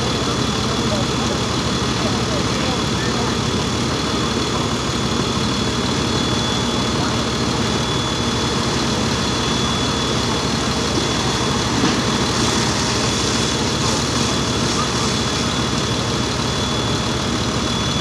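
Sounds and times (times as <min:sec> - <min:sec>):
diesel engine running: 0:00.0 - 0:18.0
high-pitched pump whine: 0:00.0 - 0:18.0.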